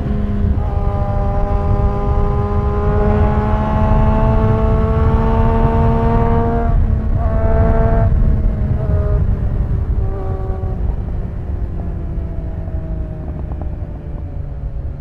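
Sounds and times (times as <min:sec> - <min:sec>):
motorcycle engine accelerating: 0:00.0 - 0:15.0
wind rumble on microphone: 0:00.0 - 0:15.0.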